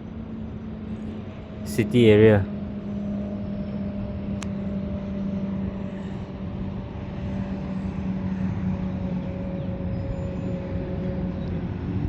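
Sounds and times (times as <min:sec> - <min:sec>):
engine drone: 0:00.4 - 0:12.0.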